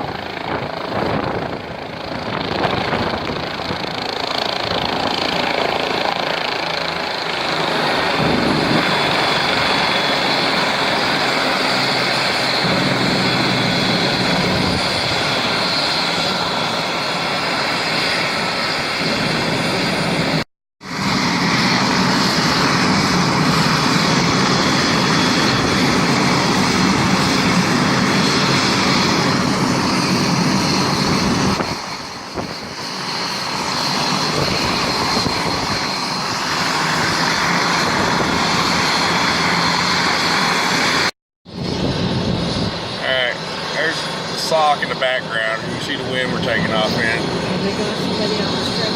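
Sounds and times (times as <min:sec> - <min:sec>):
helicopter turbine and rotor: 0:00.0 - 0:48.9.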